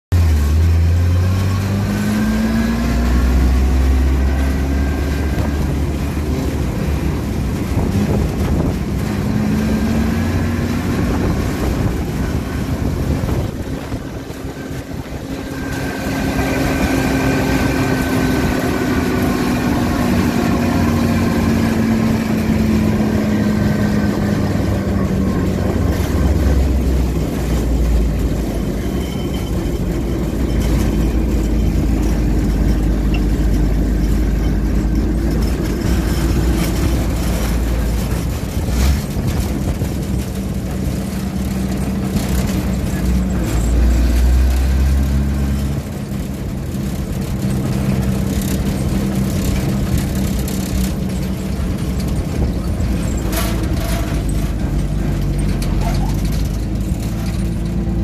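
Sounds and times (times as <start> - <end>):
drivetrain whine: 0.1 - 58.0
vehicle engine running: 0.1 - 58.0.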